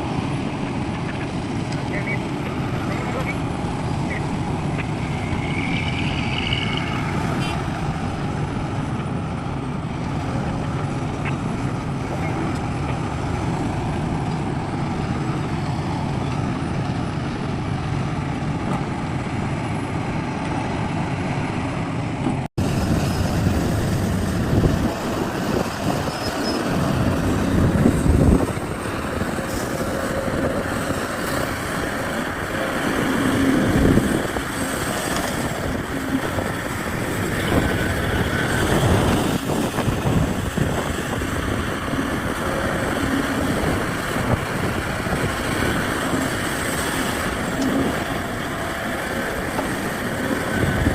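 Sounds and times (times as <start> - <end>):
diesel engines revving: 0.0 - 50.9.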